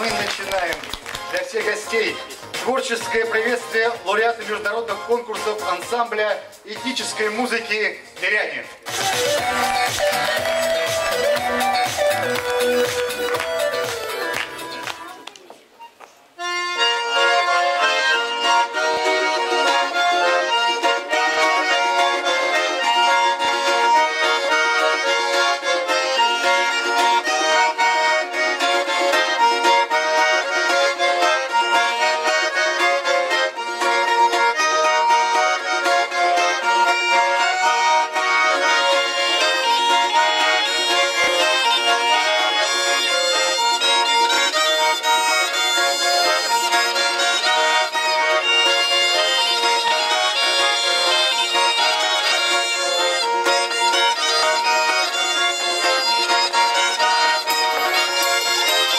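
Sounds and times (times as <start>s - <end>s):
folk wind pipes: 0.0s - 7.9s, 8.6s - 58.9s
button accordion folk tune: 0.0s - 15.2s, 15.8s - 58.9s
balalaika playing: 0.0s - 58.9s.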